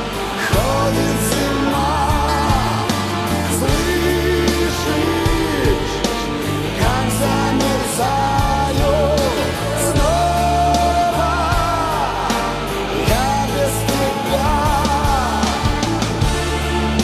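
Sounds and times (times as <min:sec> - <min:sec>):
bending lead melody: 0:00.0 - 0:17.0
rock band playing live: 0:00.0 - 0:17.0.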